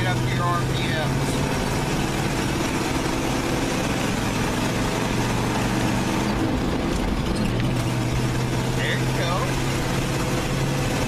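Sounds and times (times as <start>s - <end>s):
truck engine accelerating: 0.0s - 11.0s.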